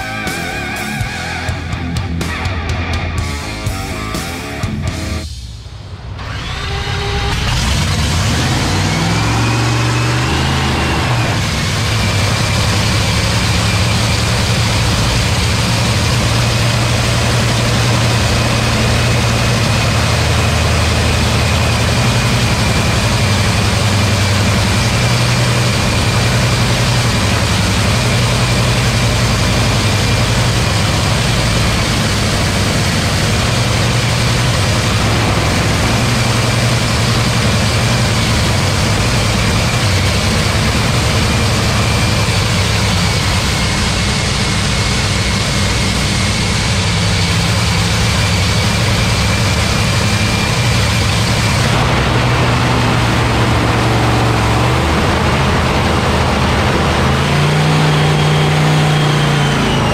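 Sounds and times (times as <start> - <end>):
high supercharger whine: 0.0 - 59.9
dragster engine idling: 6.0 - 59.9.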